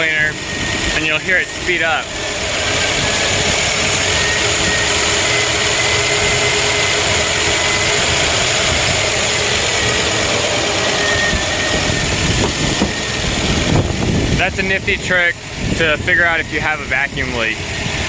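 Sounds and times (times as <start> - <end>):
engine idling unevenly: 0.0 - 18.0.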